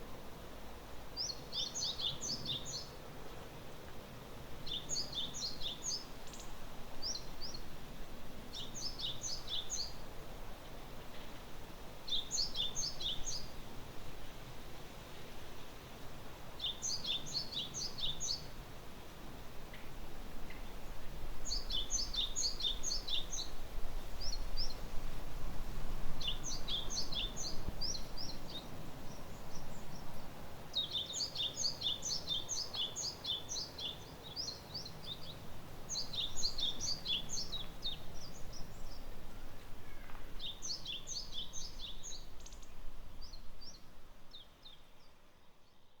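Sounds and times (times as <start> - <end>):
songbirds chirping: 0.0 - 18.8, 19.6 - 25.2, 25.8 - 46.0.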